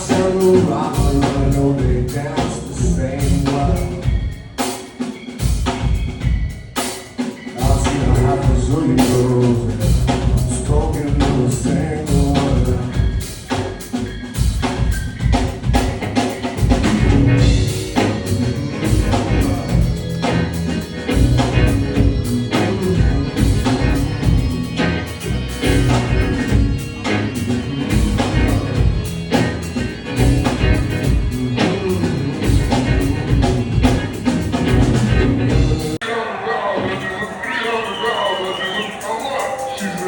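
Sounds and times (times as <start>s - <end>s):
heavy bass line: 0.0s - 4.4s, 7.6s - 36.0s
drum kit: 0.0s - 36.0s
rock band playing live: 0.0s - 40.0s.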